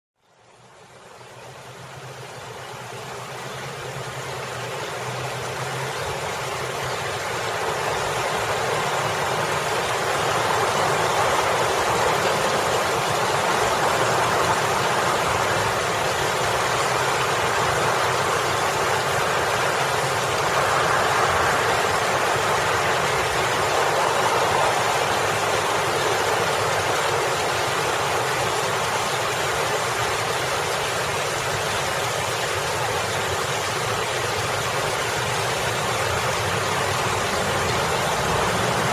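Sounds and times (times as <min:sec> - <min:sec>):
fountain water splashing: 0:00.3 - 0:38.9
road traffic: 0:01.8 - 0:38.9.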